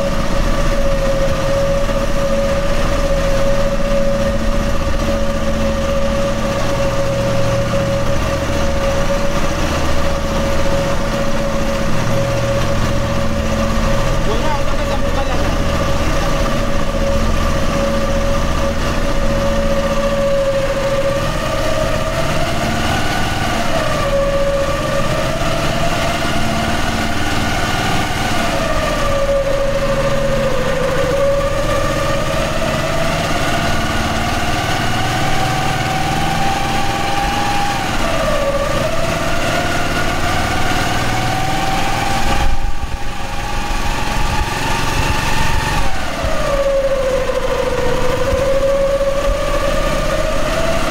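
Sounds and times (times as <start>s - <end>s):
engine rumble: 0.0s - 50.9s
high whine rising and falling: 0.0s - 50.9s.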